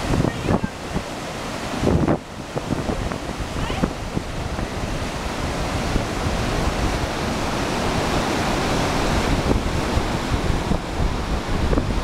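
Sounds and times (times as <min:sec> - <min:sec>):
river flowing fast: 0:00.0 - 0:12.0
wind buffeting microphone: 0:00.0 - 0:12.0.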